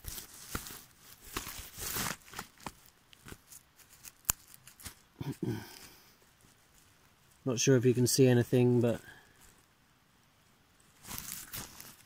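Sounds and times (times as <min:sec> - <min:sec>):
rustling: 0:00.0 - 0:09.8, 0:10.7 - 0:12.0.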